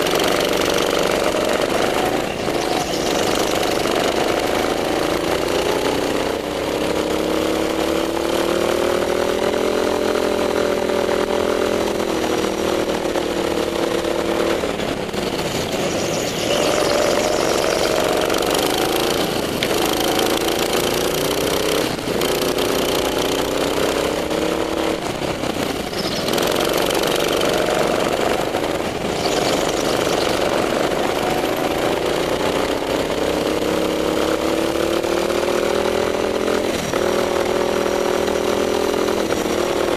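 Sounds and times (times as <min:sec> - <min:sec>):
go-kart engine accelerating: 0:00.0 - 0:39.9.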